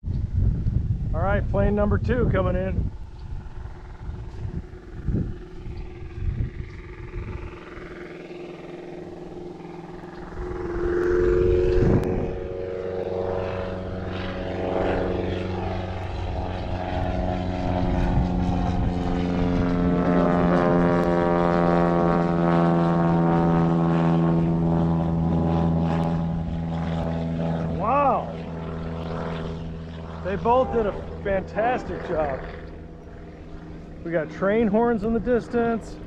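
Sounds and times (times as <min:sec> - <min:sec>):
propeller plane engine drone: 0:00.1 - 0:36.0.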